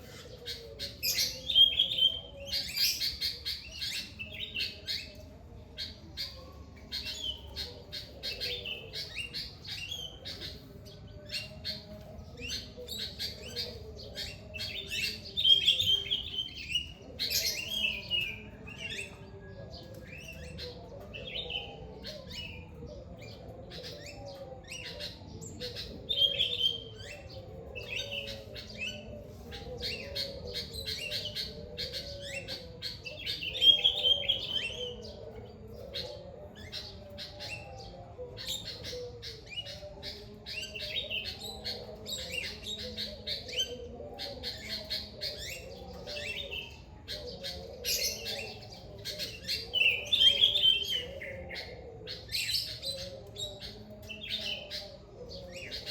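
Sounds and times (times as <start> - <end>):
birds chirping in chorus: 0.0 - 55.9
low wavering bird calls: 0.0 - 55.9.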